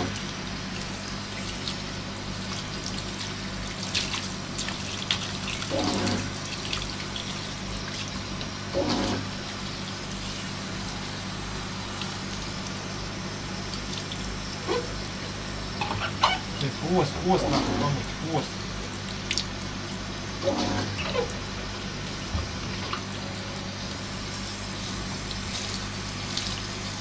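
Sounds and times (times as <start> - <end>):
shower spraying water: 0.0 - 27.0.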